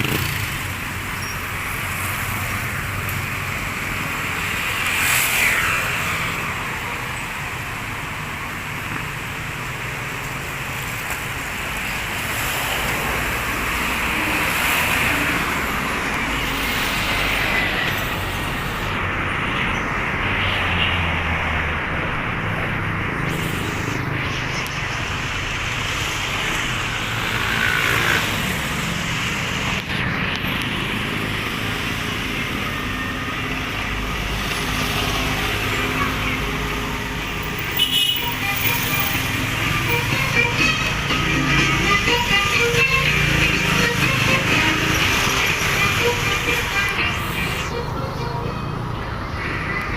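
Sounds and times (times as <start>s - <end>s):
passing cars: 0.0s - 49.9s.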